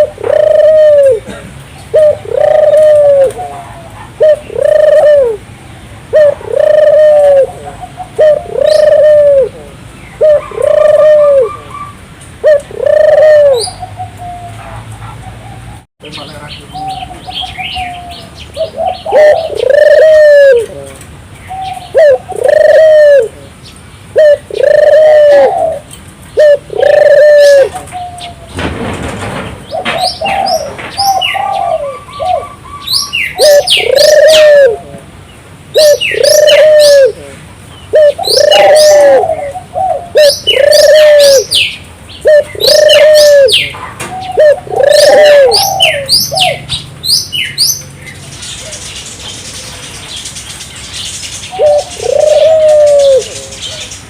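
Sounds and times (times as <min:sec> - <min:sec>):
dove cooing: 0:00.0 - 0:05.5, 0:06.1 - 0:15.8, 0:16.7 - 0:23.5, 0:24.1 - 0:28.6, 0:29.7 - 0:35.1, 0:35.7 - 0:47.7, 0:51.5 - 0:53.9
small birds chirping: 0:01.6 - 0:28.6, 0:29.7 - 0:54.0.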